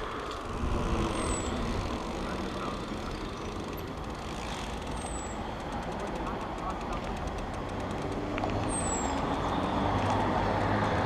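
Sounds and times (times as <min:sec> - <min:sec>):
bike tyres rumbling over ground: 0:00.0 - 0:09.2.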